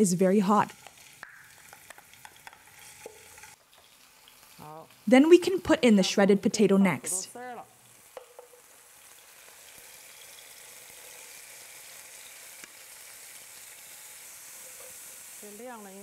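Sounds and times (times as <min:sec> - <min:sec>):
potato strips sizzling in oil: 0:00.0 - 0:06.7, 0:07.3 - 0:16.0.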